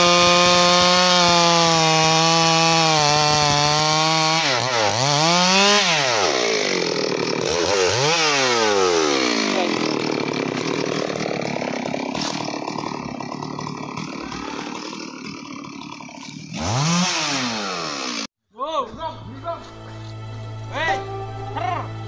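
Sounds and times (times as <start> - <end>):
chainsaw cutting log: 0.0 - 18.3.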